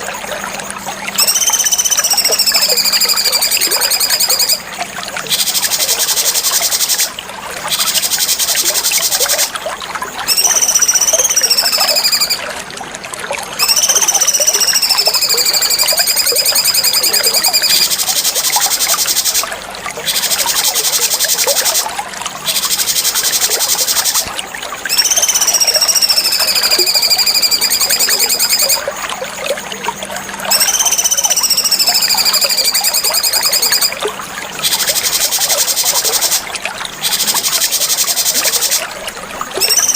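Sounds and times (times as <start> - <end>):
bird whistles sliding downward: 1.1 - 4.6, 5.3 - 7.1, 7.7 - 9.5, 10.3 - 12.5, 13.6 - 24.3, 24.9 - 28.9, 30.5 - 34.0, 34.6 - 38.9, 39.6 - 39.9.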